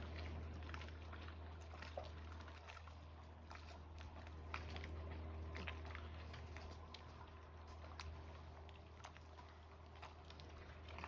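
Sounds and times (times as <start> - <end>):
low steady hum: 0.0 - 11.0
small splashes and drips: 0.0 - 11.0
water lapping against dock: 0.0 - 11.0.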